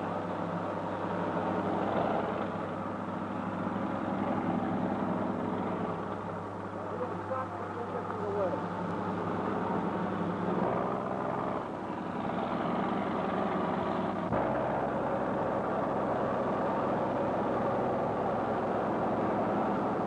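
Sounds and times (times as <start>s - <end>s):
bulldozer engine running: 0.0s - 20.0s.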